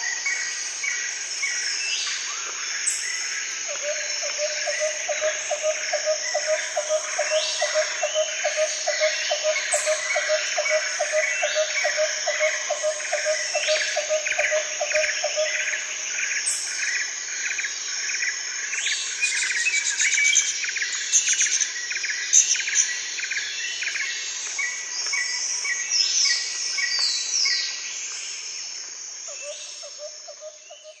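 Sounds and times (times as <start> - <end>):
insect drone: 0.0 - 31.0.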